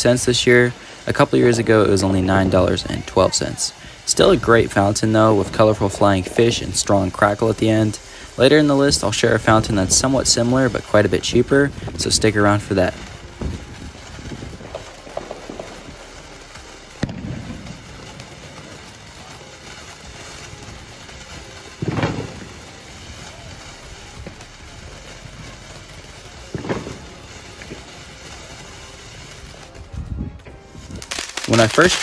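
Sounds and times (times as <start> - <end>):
firework bursts: 0.0 - 32.0
firework crackling: 0.0 - 32.0
firework sparks hissing: 0.0 - 32.0
sharp crack: 0.0 - 32.0.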